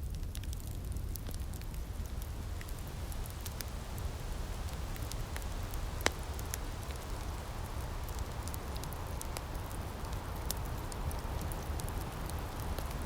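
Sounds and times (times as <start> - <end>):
fire snaps and pops: 0.0 - 13.0
wood fire crackling: 0.0 - 13.0.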